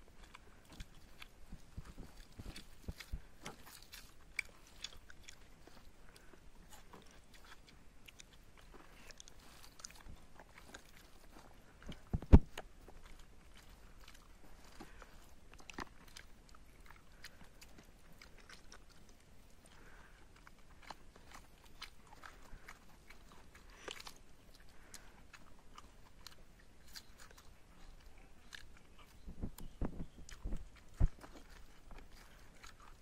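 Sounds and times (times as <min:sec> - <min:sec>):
faint chewing: 0:00.0 - 0:33.0.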